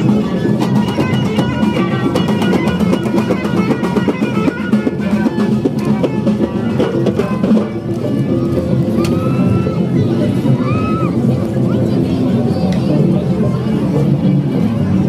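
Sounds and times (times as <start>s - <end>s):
drums and percussion: 0.0s - 15.0s.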